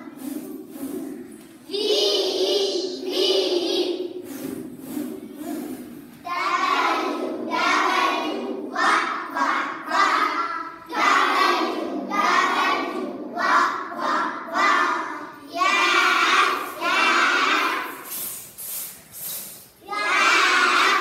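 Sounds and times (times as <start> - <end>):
children singing in unison: 0.0 - 18.2, 19.8 - 21.0.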